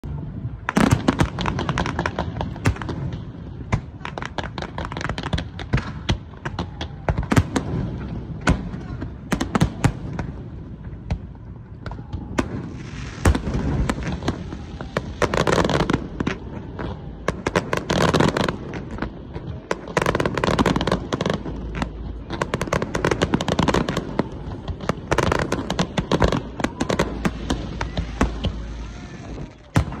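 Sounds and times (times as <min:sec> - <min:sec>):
fireworks bursting with sharp bangs: 0:00.0 - 0:30.0
fireworks crackling: 0:00.0 - 0:30.0.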